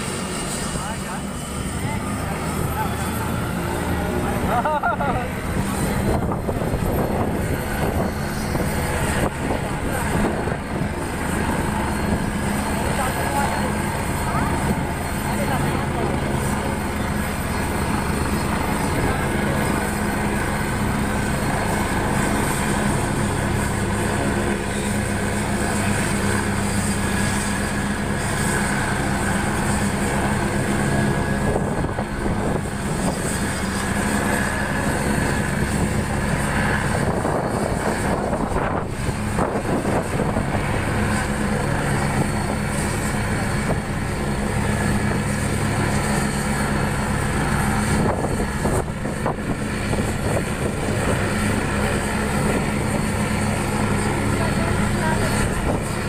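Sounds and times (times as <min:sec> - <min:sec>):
helicopter turbine whine and rotor: 0:00.0 - 0:56.0.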